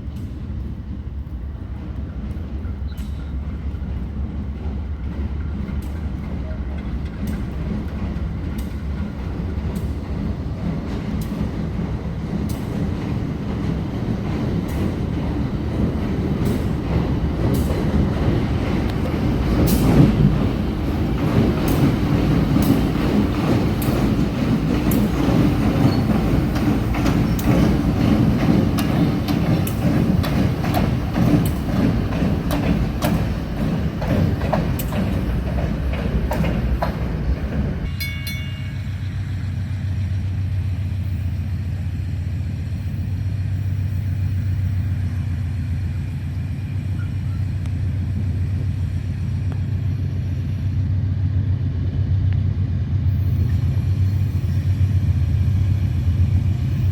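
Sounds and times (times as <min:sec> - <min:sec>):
diesel train engine drone: 0:00.0 - 0:56.9.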